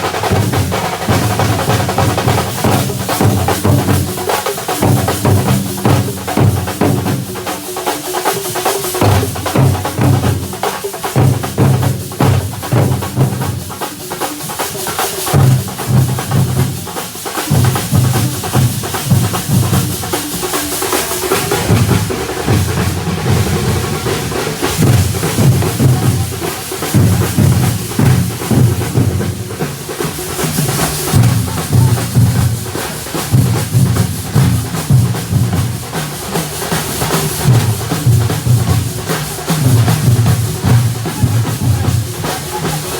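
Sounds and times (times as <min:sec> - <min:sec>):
loud driving drumming: 0:00.0 - 0:42.9.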